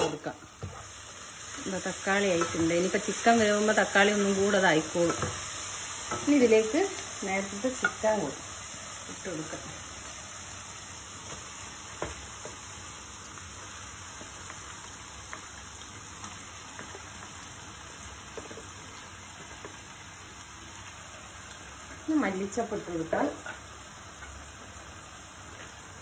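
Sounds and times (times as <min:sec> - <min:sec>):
masala sizzling in a pan: 0:00.0 - 0:26.0.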